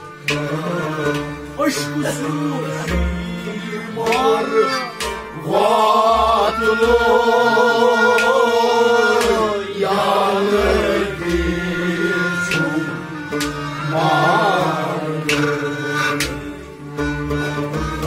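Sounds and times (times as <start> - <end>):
held instrumental tone: 0.0 - 18.0
man singing: 0.2 - 16.8.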